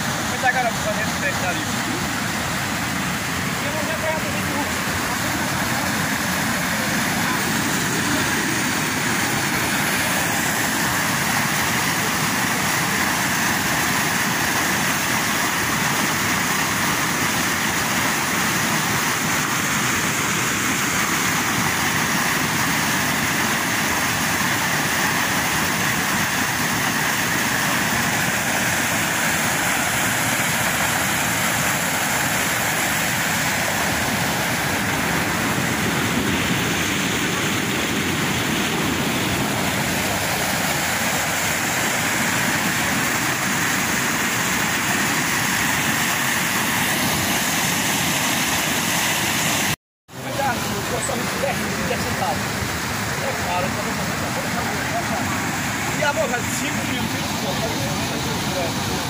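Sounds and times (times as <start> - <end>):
water rushing over spillway: 0.0 - 59.0.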